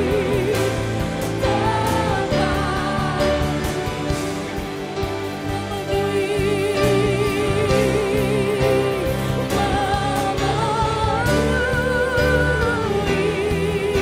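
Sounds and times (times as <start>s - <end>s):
band accompaniment: 0.0s - 14.0s
singers holding long notes: 0.0s - 14.0s.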